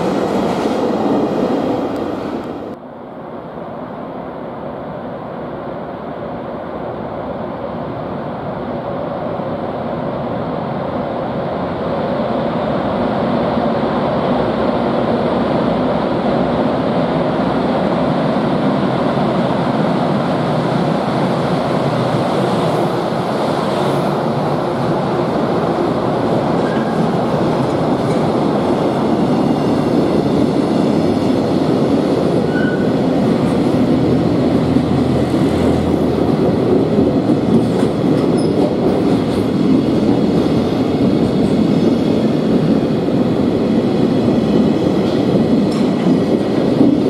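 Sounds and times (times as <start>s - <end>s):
freight train passing: 0.0s - 47.0s.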